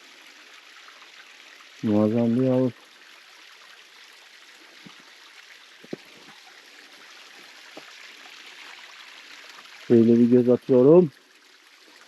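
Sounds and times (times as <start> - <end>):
flowing water: 0.0 - 12.0.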